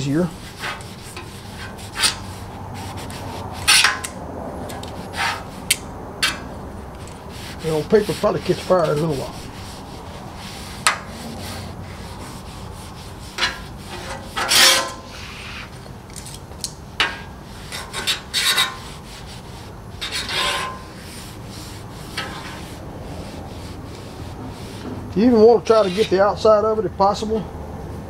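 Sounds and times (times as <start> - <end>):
paper towel scrubbing hot steel: 0.0 - 4.2, 4.9 - 15.7, 17.6 - 26.3.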